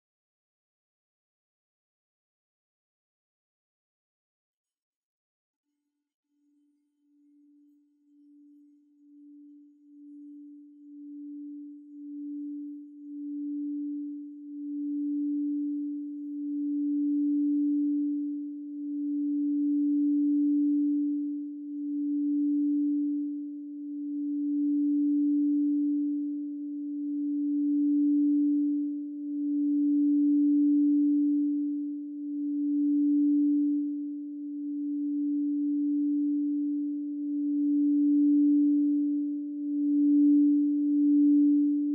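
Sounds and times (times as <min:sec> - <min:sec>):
crystal singing bowl humming: 0:07.0 - 0:41.9
faint higher overtone: 0:07.1 - 0:41.9.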